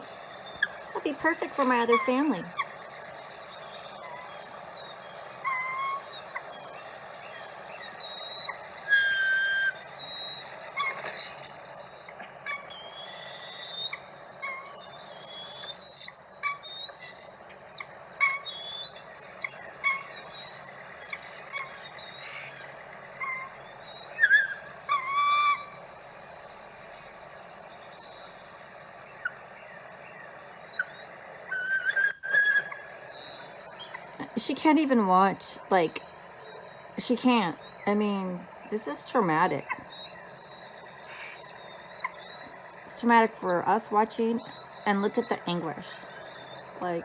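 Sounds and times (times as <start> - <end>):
eagles chirping and whistling: 0.0 - 47.0
steady background hiss: 0.0 - 47.0.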